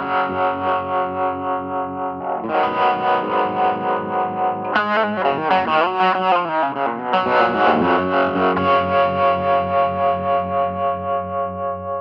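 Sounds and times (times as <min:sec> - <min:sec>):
overdriven electric guitar with tremolo: 0:00.0 - 0:12.0.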